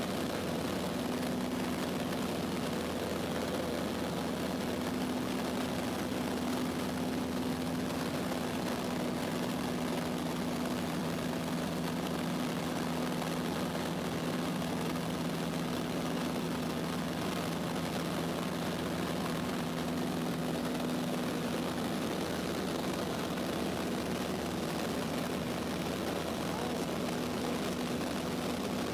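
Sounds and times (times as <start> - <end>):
propeller plane engine droning: 0.0 - 28.9.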